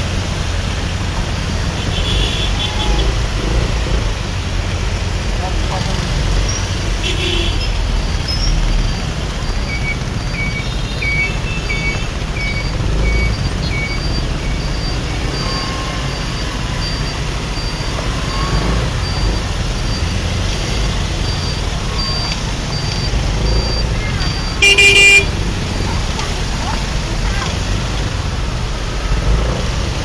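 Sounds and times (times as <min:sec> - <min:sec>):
motorcycle engine rumble: 0:00.0 - 0:30.0
road traffic: 0:00.0 - 0:30.0.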